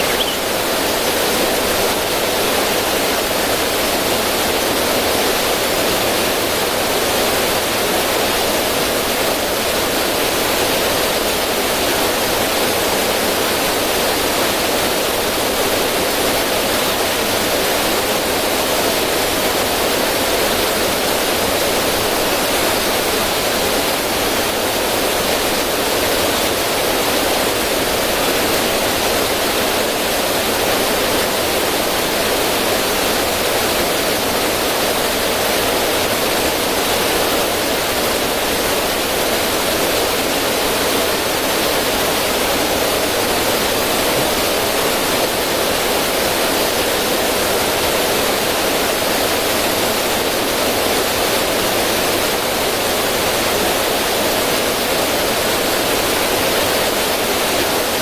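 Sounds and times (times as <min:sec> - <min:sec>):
river water over stones: 0:00.0 - 0:58.0.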